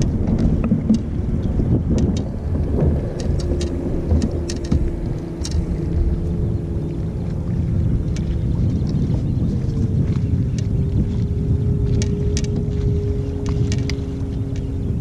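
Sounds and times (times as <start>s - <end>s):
motor hum: 0.0s - 15.0s
water noise from boat: 0.0s - 15.0s
wind rumbling on microphone: 0.0s - 15.0s.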